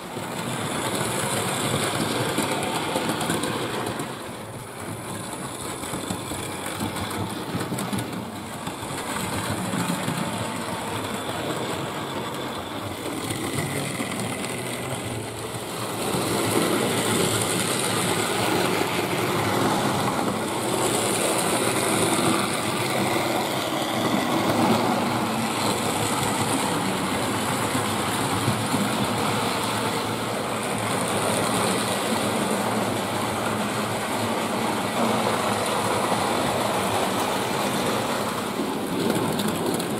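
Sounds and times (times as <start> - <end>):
wheels rattling on rails: 0.0 - 39.9.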